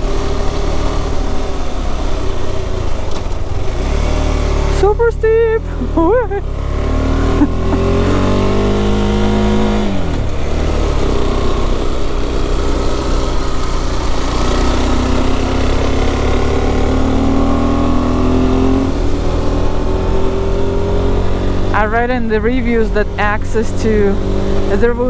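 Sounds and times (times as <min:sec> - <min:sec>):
motorcycle engine climbing: 0:00.0 - 0:25.0.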